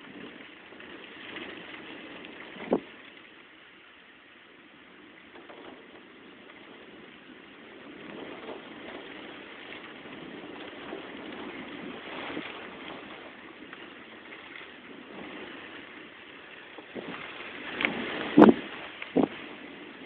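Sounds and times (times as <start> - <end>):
heavy rain: 0.0 - 20.0
wind: 0.0 - 20.0.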